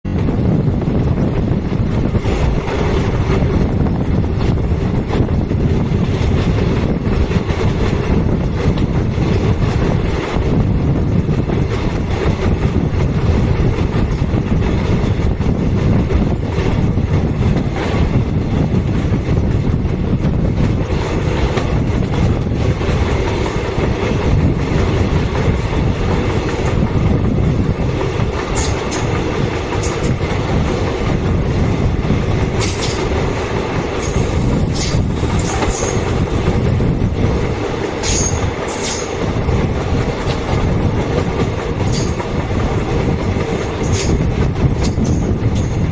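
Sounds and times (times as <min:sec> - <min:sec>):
train wheels clattering on rails: 0:00.0 - 0:45.9.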